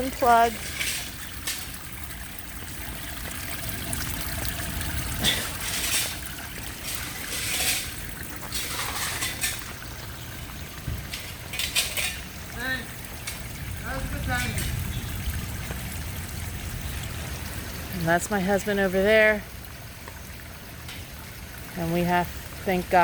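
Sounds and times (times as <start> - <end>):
water pouring into storm drain: 0.0 - 23.0
water splashing: 0.0 - 23.0.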